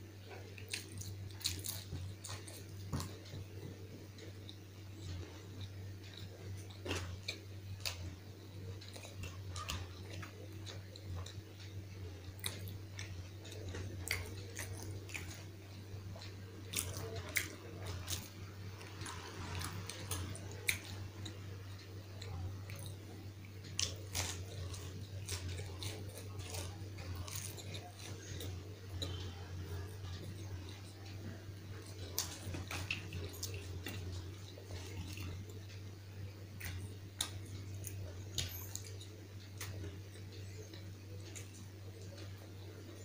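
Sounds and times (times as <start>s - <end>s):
steady low hum: 0.0s - 43.0s
person chewing food: 0.1s - 43.0s.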